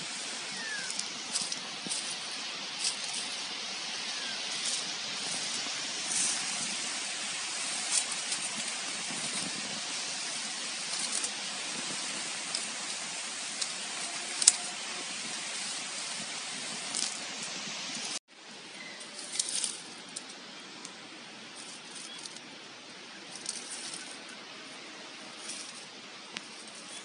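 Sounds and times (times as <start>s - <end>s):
crackles and rustles in mulch: 0.0s - 27.0s
steady hiss: 0.0s - 27.0s.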